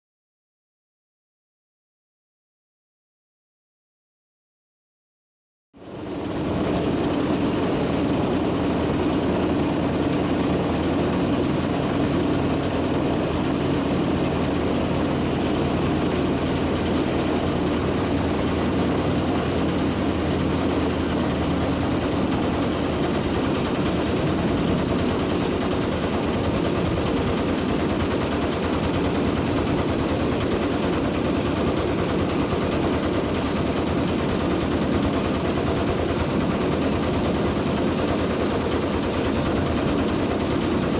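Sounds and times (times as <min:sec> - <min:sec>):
engine running with knocking rattle: 0:05.8 - 0:40.9.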